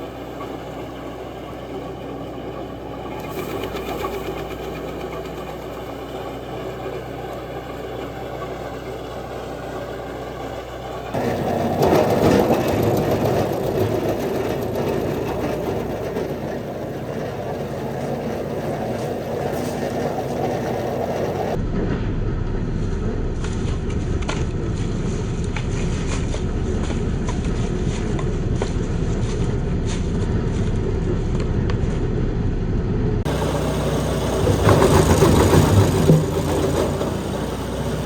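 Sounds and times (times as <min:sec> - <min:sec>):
wood chipper engine running: 0:00.0 - 0:31.7, 0:33.3 - 0:38.0.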